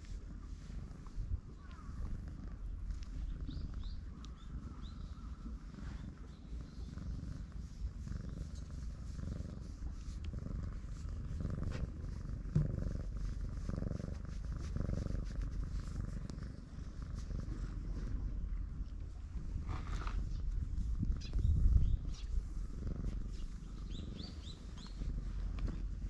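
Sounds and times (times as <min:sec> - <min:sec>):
cat purring loudly: 0:00.0 - 0:26.0.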